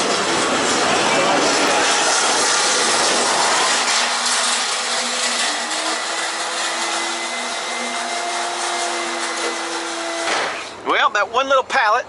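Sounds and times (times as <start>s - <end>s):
motor whirring: 0.0s - 10.8s.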